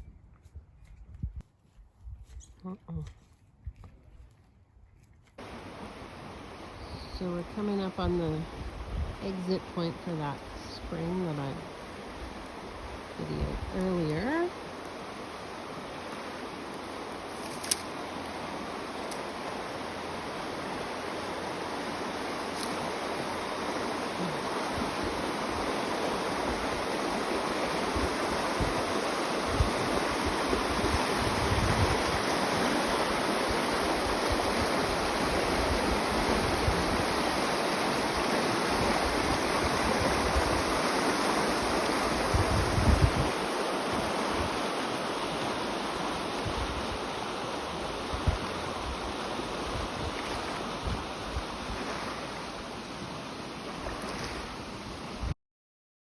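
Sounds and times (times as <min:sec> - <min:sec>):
water rushing: 0:05.4 - 0:55.4.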